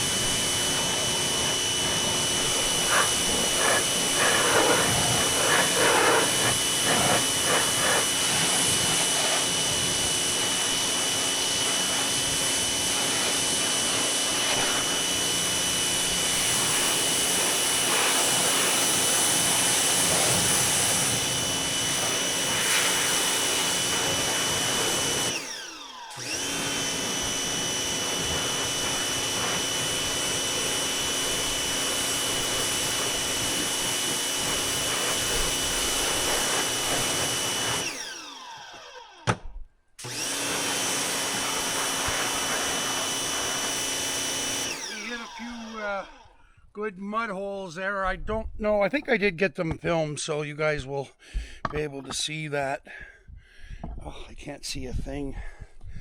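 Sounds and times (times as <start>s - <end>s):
pressure washer motor whine: 0.0s - 46.5s.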